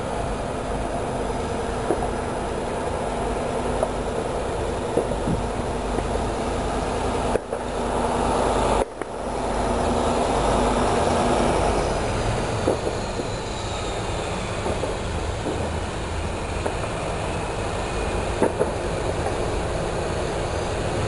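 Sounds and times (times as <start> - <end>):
faint high whine: 0.0 - 21.0
freight train rumbling: 0.0 - 21.0.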